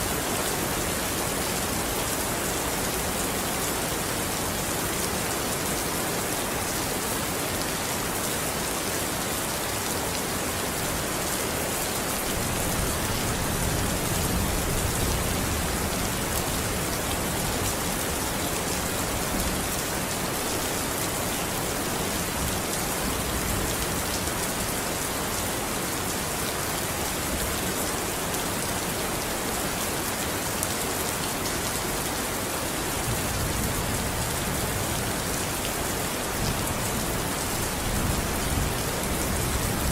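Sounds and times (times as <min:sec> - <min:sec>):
dense rainfall hissing: 0:00.0 - 0:39.9.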